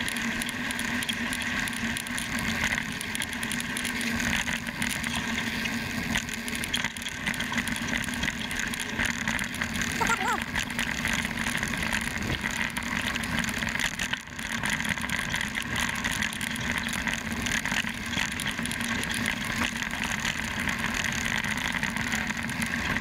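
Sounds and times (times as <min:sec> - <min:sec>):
bike rattles and clicks: 0:00.0 - 0:23.0
bike tyres on gravel: 0:00.0 - 0:23.0.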